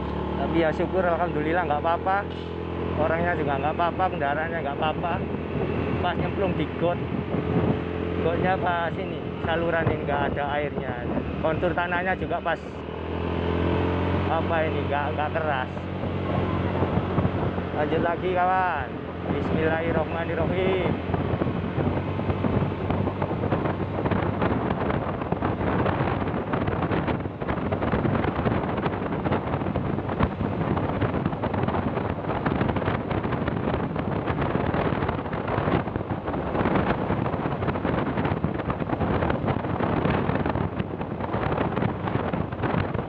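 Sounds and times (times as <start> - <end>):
vehicle engine running: 0.0 - 43.0
wind buffeting microphone: 0.0 - 43.0.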